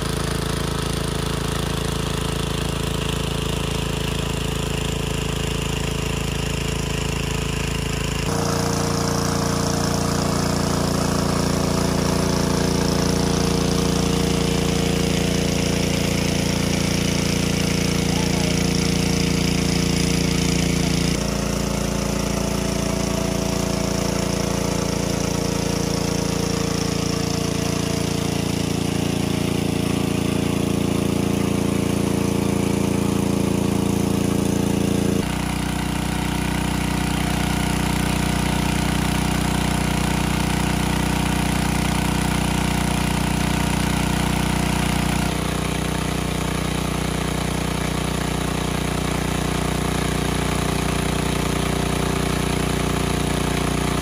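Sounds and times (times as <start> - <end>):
engine-driven water pump running: 0.0 - 54.0.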